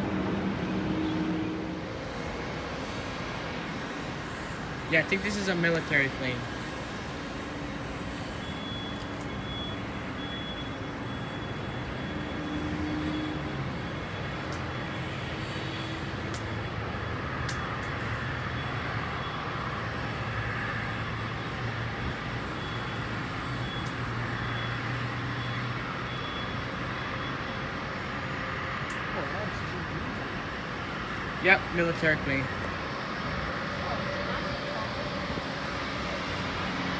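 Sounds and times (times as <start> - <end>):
distant airplane engine rumble: 0.0 - 36.9.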